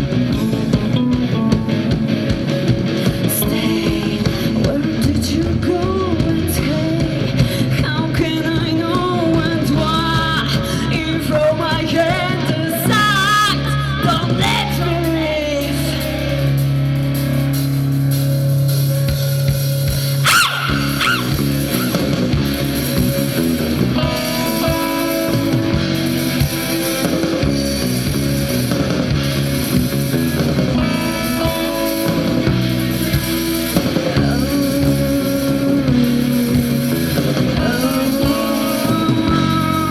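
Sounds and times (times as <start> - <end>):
rock band music with guitar: 0.0 - 39.9.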